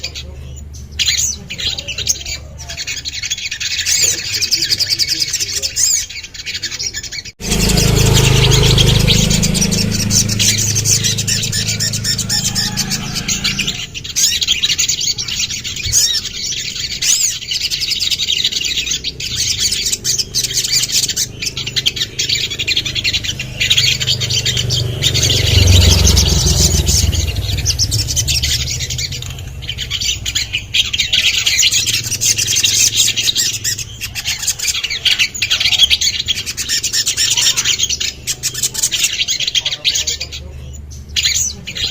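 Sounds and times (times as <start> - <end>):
bird chirping and trilling: 0.0 - 41.9.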